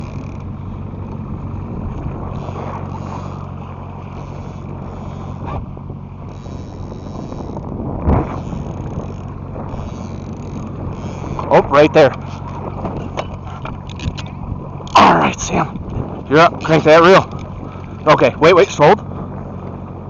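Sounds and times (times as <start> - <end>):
boat motor running: 0.0 - 20.0
water noise: 0.0 - 20.0
wind: 0.0 - 20.0.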